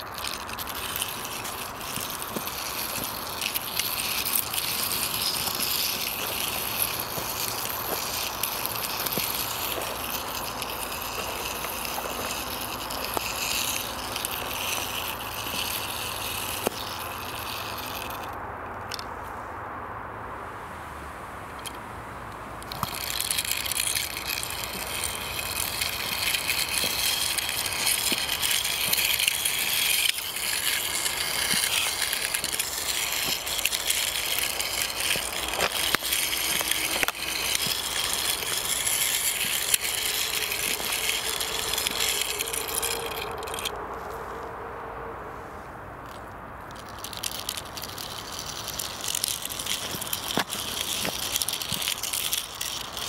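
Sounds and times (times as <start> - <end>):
toy car wheels rattling on ground: 0.0 - 19.4, 21.5 - 44.6, 45.9 - 53.0.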